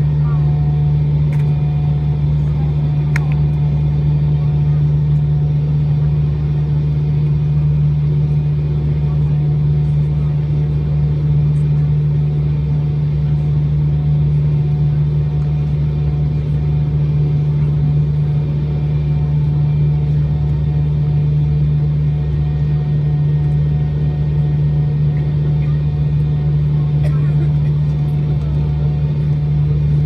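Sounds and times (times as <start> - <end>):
jet engines droning in cabin: 0.0 - 30.0.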